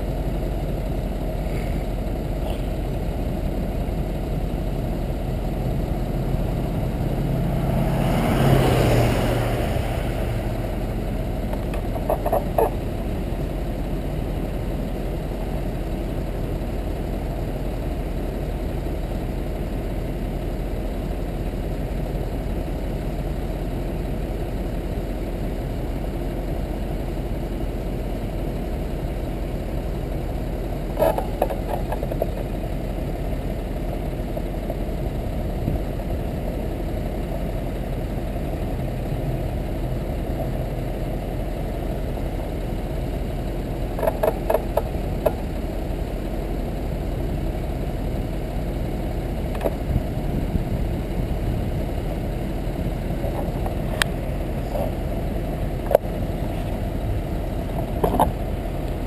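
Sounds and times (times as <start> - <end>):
wind and road rumble: 0.0 - 59.0.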